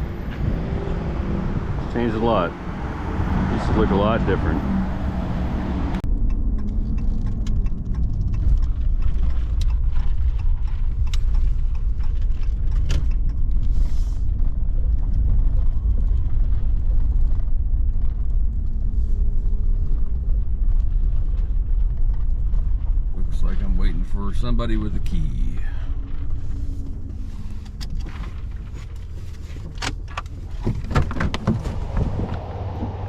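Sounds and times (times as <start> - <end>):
truck engine and road noise: 0.0 - 33.0.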